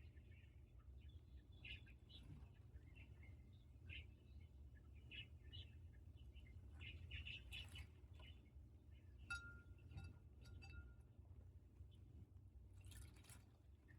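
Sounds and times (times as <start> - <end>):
faint low hum: 0.0 - 13.9.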